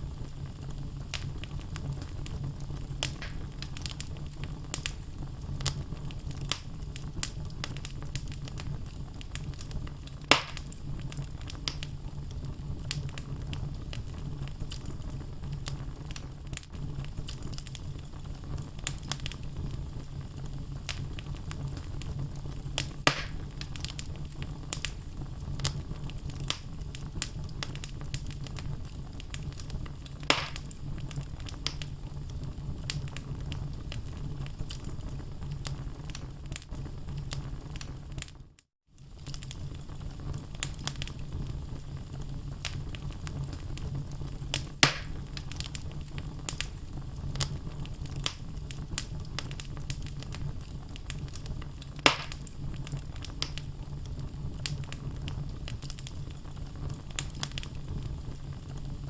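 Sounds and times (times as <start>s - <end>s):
loud fire pops: 0.0s - 38.4s, 39.0s - 59.0s
wood logs crackling in fireplace: 0.0s - 59.0s.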